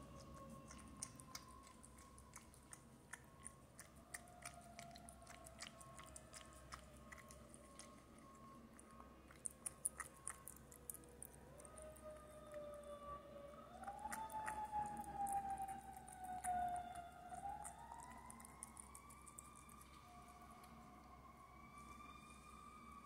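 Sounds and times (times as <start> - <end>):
cat chewing and lapping food: 0.0 - 22.5.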